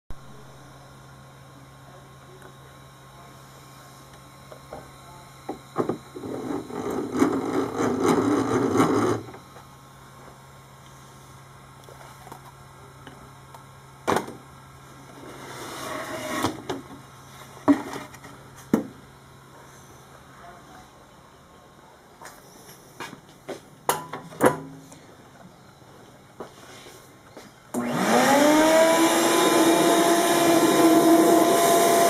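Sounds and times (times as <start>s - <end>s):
steady low hum: 0.1s - 27.9s.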